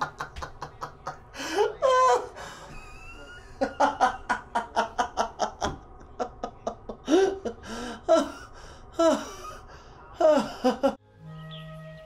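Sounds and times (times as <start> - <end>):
man laughing: 0.0 - 11.0.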